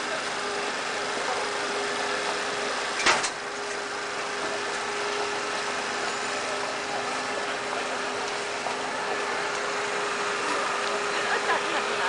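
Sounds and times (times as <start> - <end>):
steady engine-like hum: 0.0 - 12.0.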